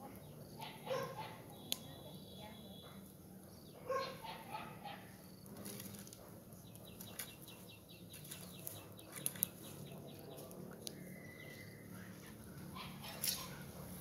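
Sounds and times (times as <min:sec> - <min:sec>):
small bird chirping: 0:00.0 - 0:13.7.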